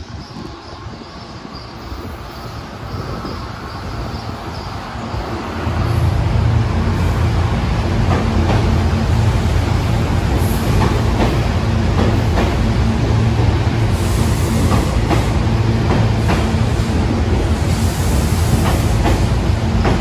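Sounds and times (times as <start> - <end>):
electric train pulling in: 0.0 - 20.0
train motors humming: 0.0 - 20.0.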